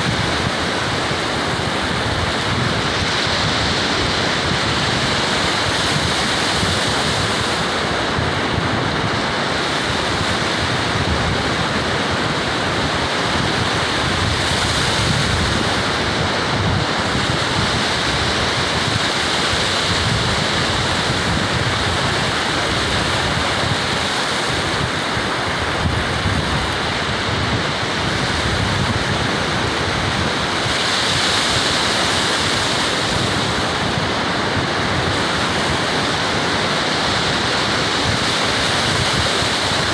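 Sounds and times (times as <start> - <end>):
ocean surf washing: 0.0 - 39.9
wind on microphone: 0.0 - 39.9.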